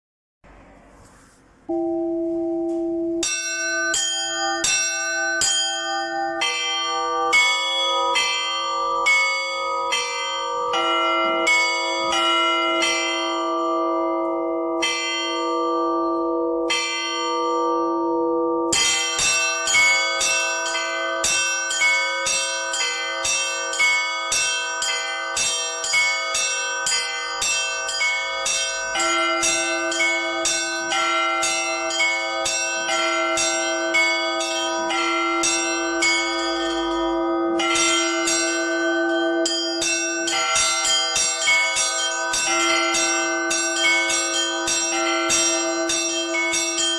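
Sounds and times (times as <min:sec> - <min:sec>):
low bell tone: 0:01.7 - 0:46.9
smaller bells struck: 0:01.7 - 0:46.9.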